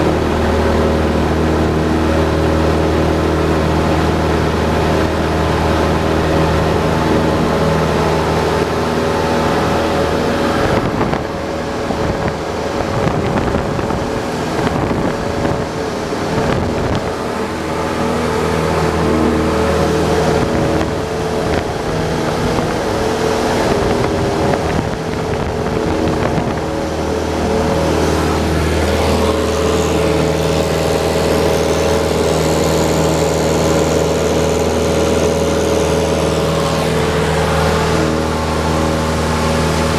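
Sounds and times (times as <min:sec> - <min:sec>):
propeller plane engine drone: 0:00.0 - 0:39.9
rushing wind noise: 0:00.0 - 0:39.9.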